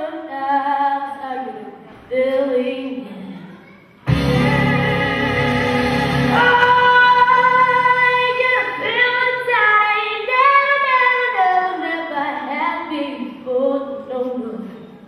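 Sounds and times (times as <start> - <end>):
girl singing: 0.0 - 14.8.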